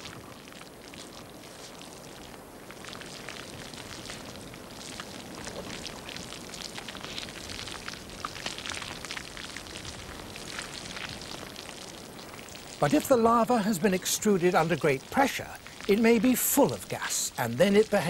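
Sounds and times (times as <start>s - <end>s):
lava crackling: 0.0s - 18.0s
steady hiss: 0.0s - 18.0s.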